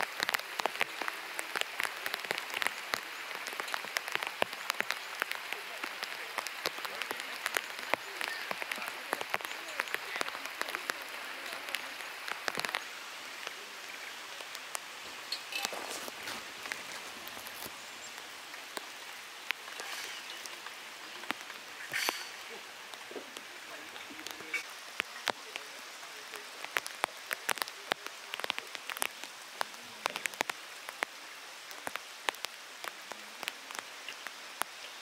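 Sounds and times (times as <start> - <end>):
raindrops tapping on tarp: 0.0 - 35.0.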